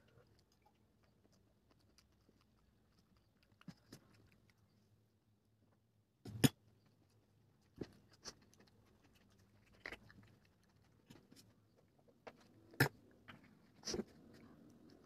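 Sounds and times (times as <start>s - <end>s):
soft chewing: 0.0s - 5.3s, 6.3s - 15.0s.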